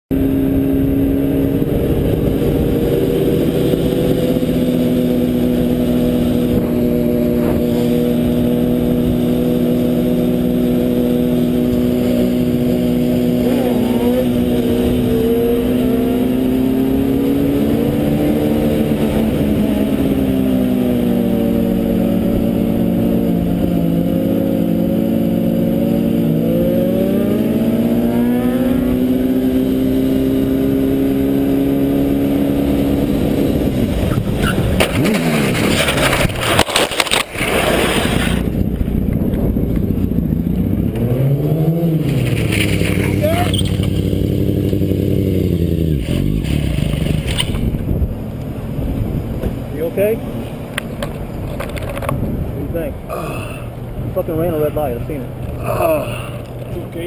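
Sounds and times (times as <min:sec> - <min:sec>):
road and wind noise: 0:00.1 - 0:57.0
vehicle engine cruising: 0:00.1 - 0:57.0.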